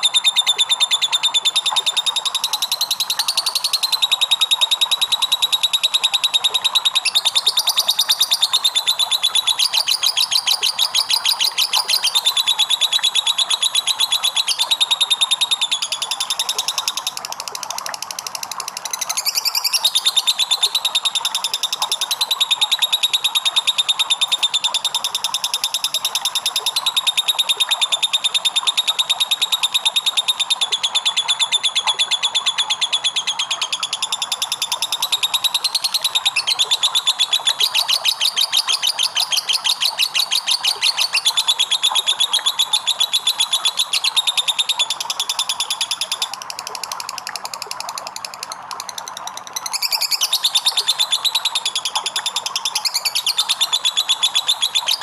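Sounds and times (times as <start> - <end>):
lovebird chattering trill: 0.0 - 17.2, 18.1 - 46.3, 49.6 - 55.0.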